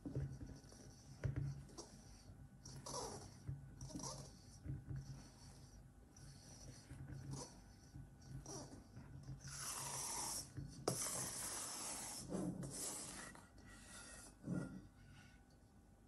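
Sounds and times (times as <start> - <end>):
scraper scraping batter in bowl: 0.0 - 15.5.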